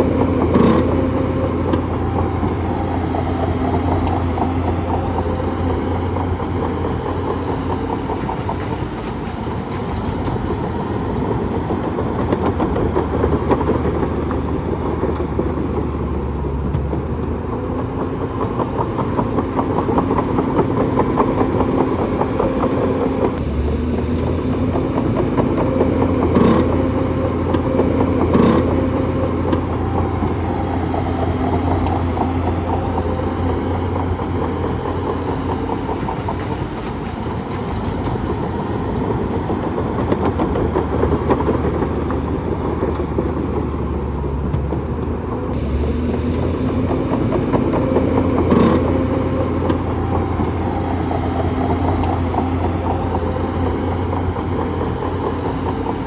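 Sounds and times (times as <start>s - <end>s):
bulldozer diesel engine running: 0.0s - 56.0s
dense rattle: 0.0s - 56.0s.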